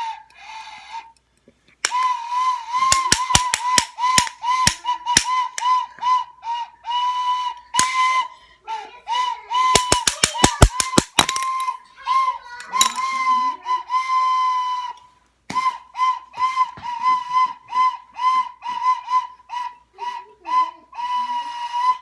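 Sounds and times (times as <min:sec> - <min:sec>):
toy flute tooting: 0:00.0 - 0:01.2, 0:01.8 - 0:22.0.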